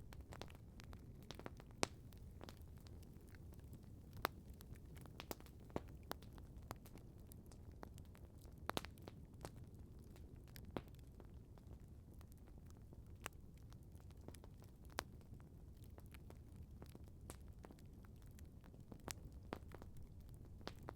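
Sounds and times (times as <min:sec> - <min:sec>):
campfire crackling: 0:00.0 - 0:20.9
low steady background noise: 0:00.0 - 0:20.9.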